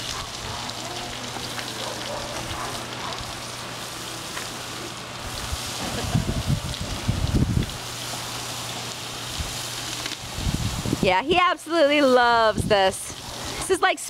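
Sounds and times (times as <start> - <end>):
hose water spattering: 0.0 - 14.0.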